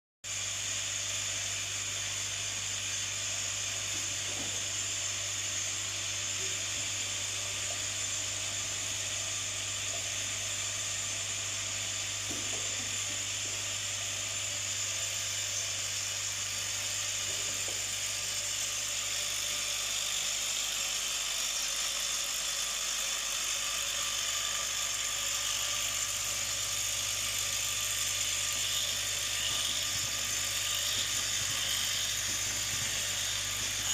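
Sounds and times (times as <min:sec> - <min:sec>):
high-pitched machine whine: 0:00.3 - 0:33.9.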